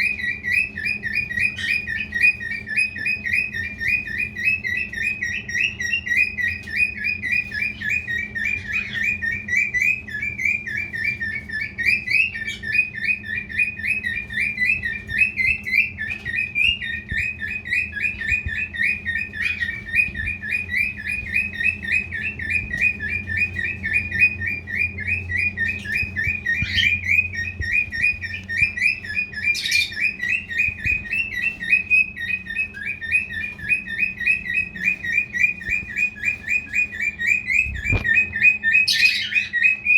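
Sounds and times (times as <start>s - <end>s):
cockatiel chirping: 0.0s - 39.9s.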